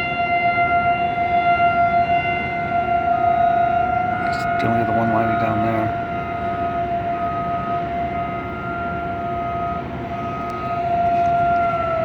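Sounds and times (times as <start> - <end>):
rotating siren tone: 0.0 - 12.0
steady siren wail: 0.0 - 12.0.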